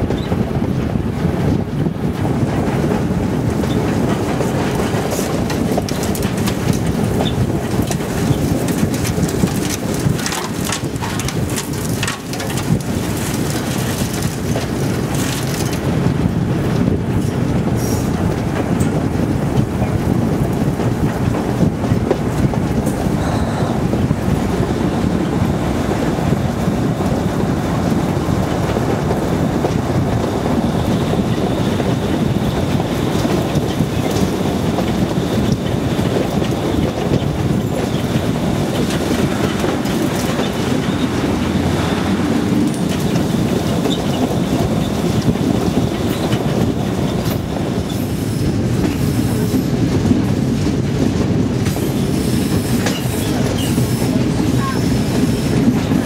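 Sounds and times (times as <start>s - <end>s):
train rumbling on the track: 0.0s - 56.0s
wind buffeting the microphone: 0.0s - 56.0s.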